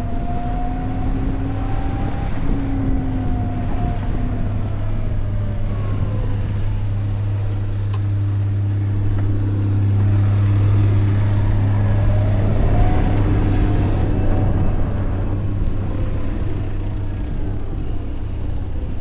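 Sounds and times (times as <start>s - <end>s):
electric motor whine: 0.0s - 19.0s
road and wind rumble: 0.0s - 19.0s.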